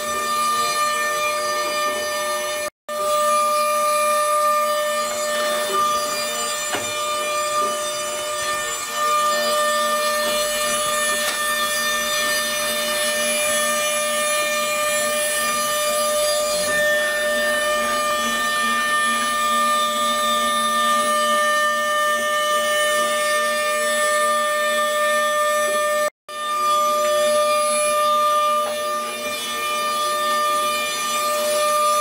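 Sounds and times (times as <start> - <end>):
bit cutting wood: 0.0 - 32.0
router spindle high whine: 0.0 - 32.0.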